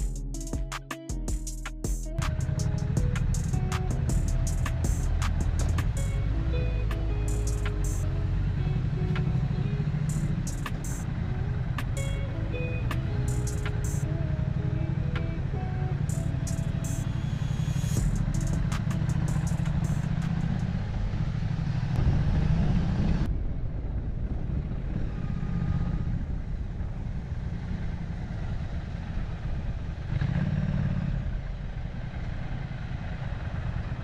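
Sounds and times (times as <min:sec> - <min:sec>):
motorcycle engine rumble: 0:00.0 - 0:34.0.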